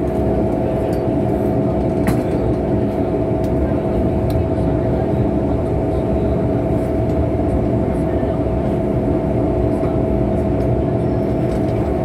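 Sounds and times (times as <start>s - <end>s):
constant hum: 0.0s - 12.0s
train running gear rumble: 0.0s - 12.0s.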